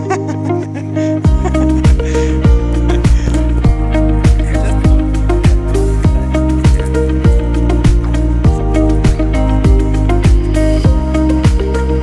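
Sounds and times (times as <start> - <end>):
deep drum beat: 1.3 - 11.7.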